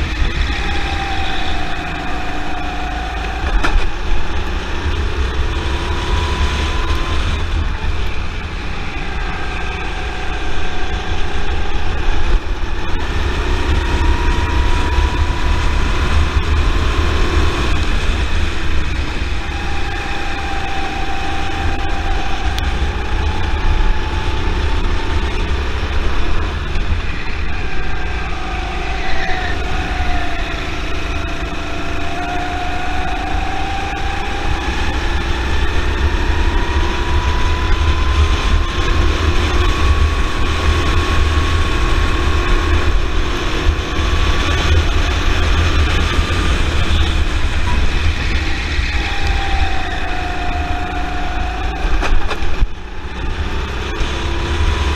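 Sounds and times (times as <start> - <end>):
kart engine at racing speed: 0.0 - 54.9
wind rumble on microphone: 0.0 - 54.9.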